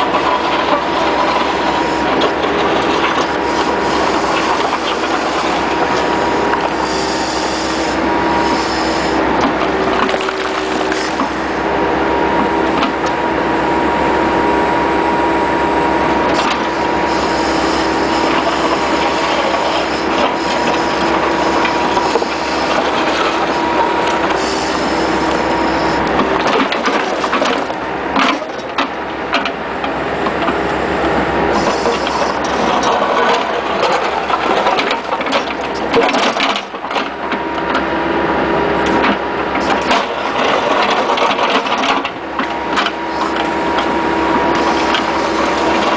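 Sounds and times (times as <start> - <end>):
skid-steer loader engine running: 0.0 - 45.9.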